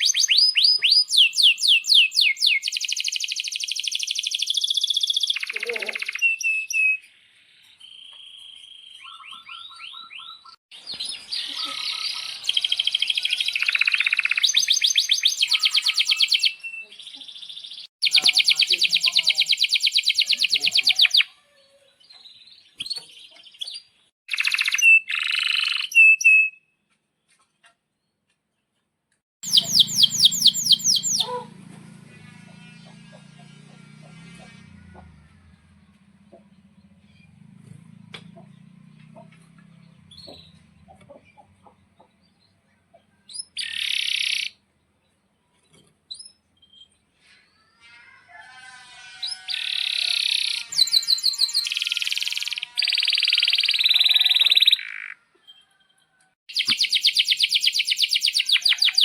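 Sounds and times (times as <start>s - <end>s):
canary singing chirps and trills: 0.0s - 26.7s, 29.4s - 31.5s, 35.7s - 47.1s, 49.1s - 55.9s, 56.5s - 59.0s.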